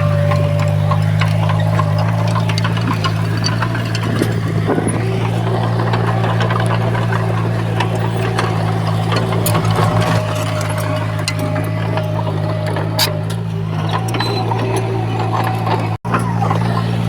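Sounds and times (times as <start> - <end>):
diesel engine running: 0.0 - 17.0
metallic clicks and clanks: 0.0 - 17.0.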